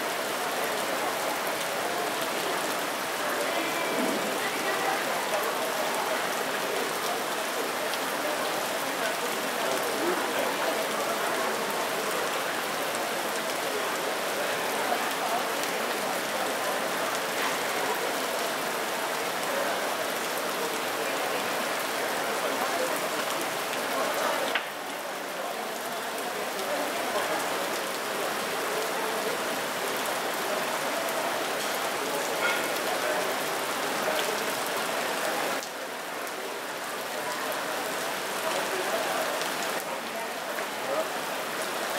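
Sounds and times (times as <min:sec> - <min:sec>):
stream splashing over rocks: 0:00.0 - 0:41.9.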